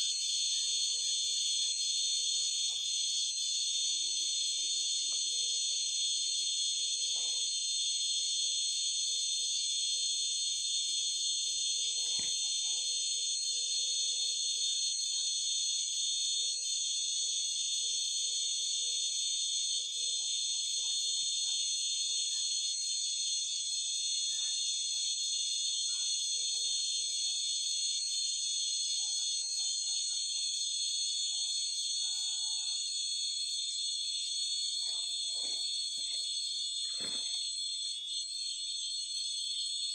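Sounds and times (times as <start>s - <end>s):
faint low insect calls: 0.0s - 39.9s
high-pitched insect chirring: 0.0s - 39.9s.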